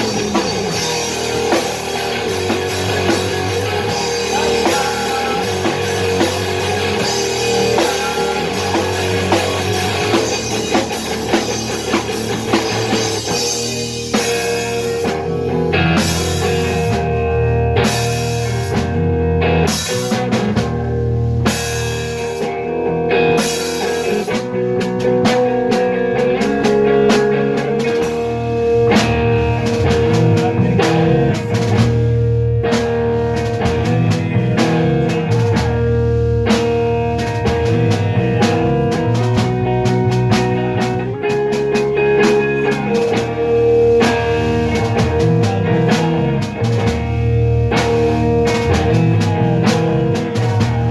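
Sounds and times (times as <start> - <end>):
instrumental rock music: 0.0 - 50.9.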